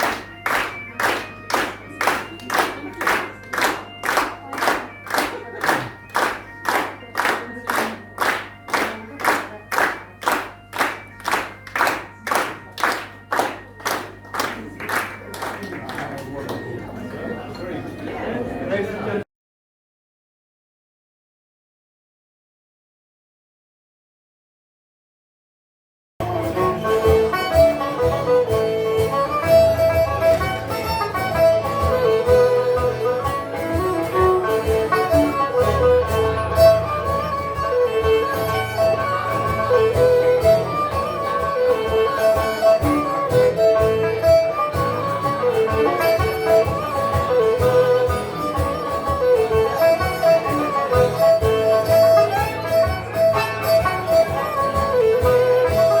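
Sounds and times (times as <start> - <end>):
strummed guitar: 0.0 - 18.2, 26.2 - 56.0
held folk melody line: 0.0 - 19.2, 26.2 - 56.0.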